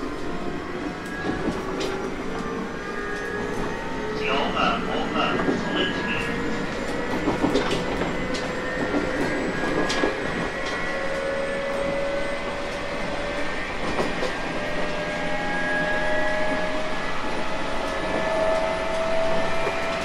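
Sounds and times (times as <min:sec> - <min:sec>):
electric train whining: 0:00.0 - 0:20.0
rail noise: 0:00.0 - 0:20.0.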